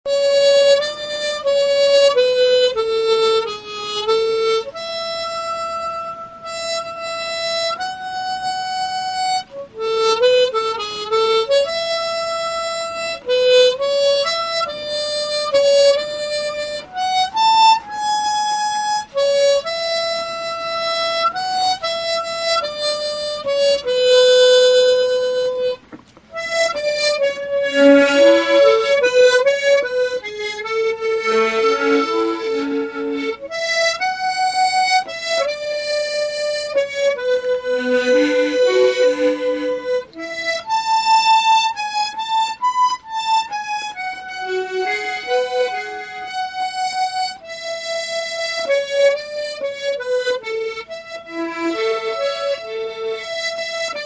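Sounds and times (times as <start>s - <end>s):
harmonica melody: 0.1s - 54.0s.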